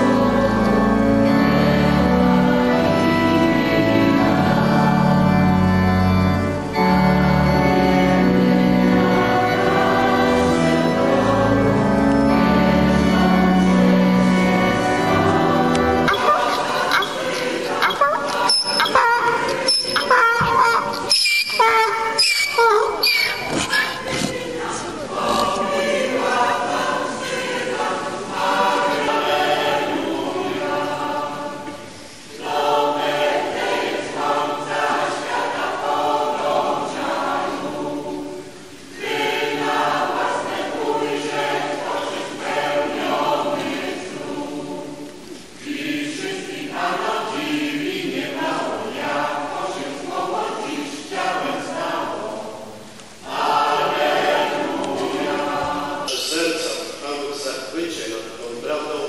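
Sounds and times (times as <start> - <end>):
church choir singing: 0.0 - 59.0.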